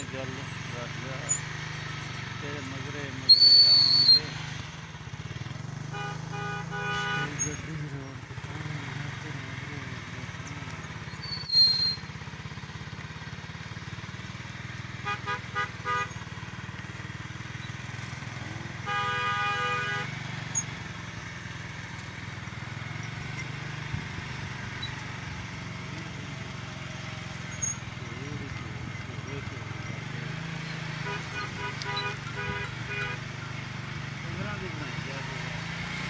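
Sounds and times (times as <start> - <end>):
vehicle horn honking: 0.0 - 12.2, 13.8 - 25.0, 25.9 - 35.5
low engine hum: 0.0 - 36.0.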